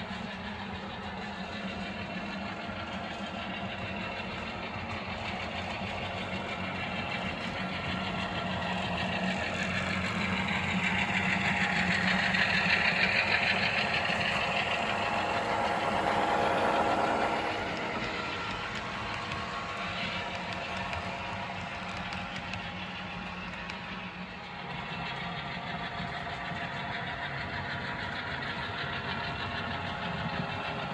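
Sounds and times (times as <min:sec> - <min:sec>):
model train motor hum: 0:00.0 - 0:30.9
wheels rolling on rails: 0:05.2 - 0:30.9.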